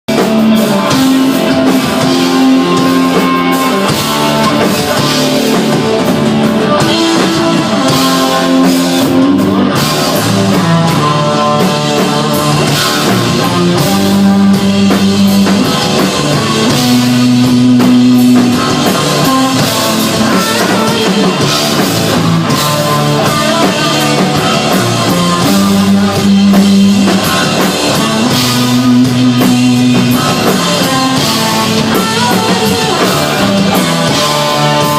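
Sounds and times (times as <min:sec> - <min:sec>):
rock band playing live: 0:00.0 - 0:34.9
sustained bass notes: 0:00.1 - 0:34.9.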